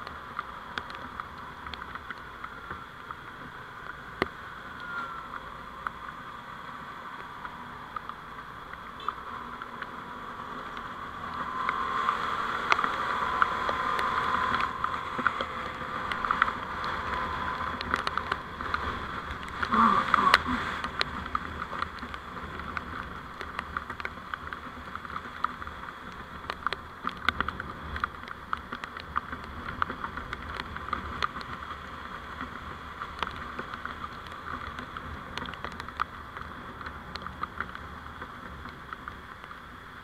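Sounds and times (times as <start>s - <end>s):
small ticks and crackles: 0.0s - 40.0s
vehicle driving noise: 0.0s - 40.0s.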